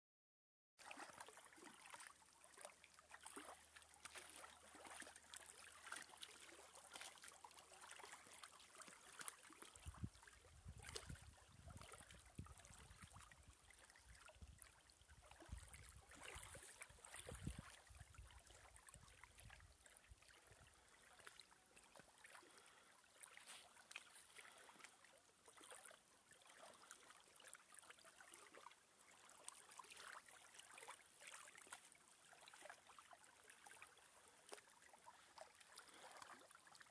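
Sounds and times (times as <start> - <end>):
small waves lapping on rocks: 0.8 - 36.9.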